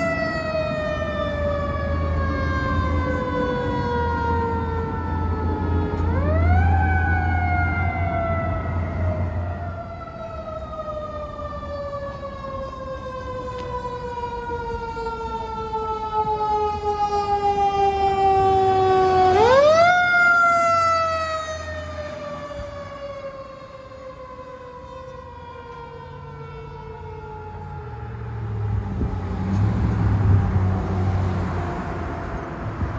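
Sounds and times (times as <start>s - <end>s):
fire engine siren wailing: 0.0s - 32.9s
vehicle engine noise: 0.0s - 32.9s.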